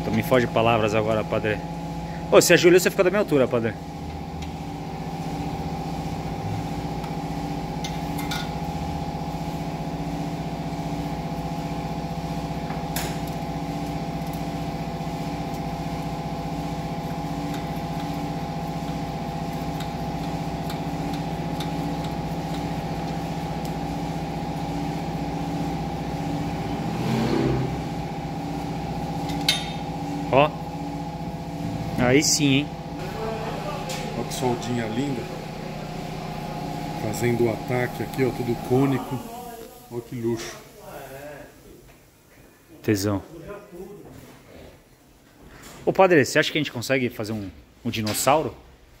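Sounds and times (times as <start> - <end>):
machine hum with pulsing tone: 0.0 - 39.9.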